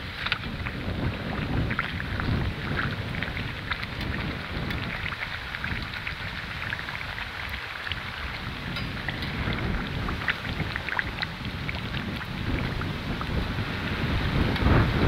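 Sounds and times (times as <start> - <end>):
deep-frying sizzle and crackles: 0.0 - 15.0
low rumble: 0.0 - 15.0.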